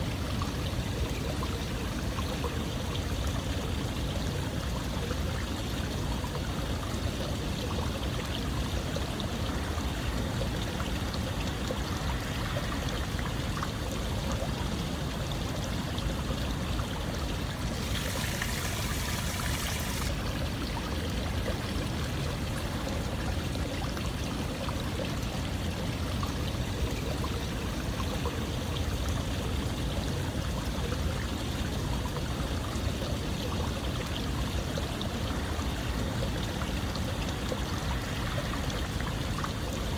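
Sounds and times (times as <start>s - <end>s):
running water flowing: 5.5s - 39.9s.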